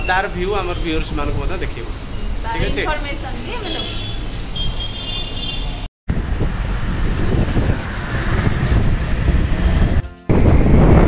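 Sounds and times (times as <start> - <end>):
scooter and car engines: 0.0 - 11.0
tyre and road noise: 0.0 - 11.0.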